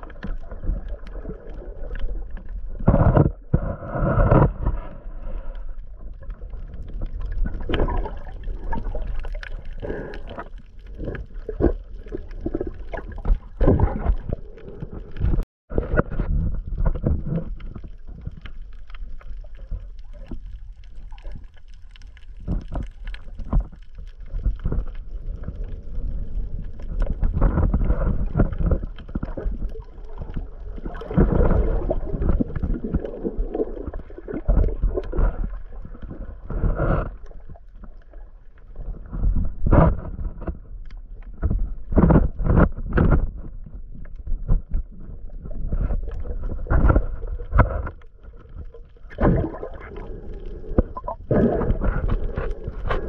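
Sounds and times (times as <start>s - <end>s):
muffled underwater water sloshing: 0.0s - 53.0s.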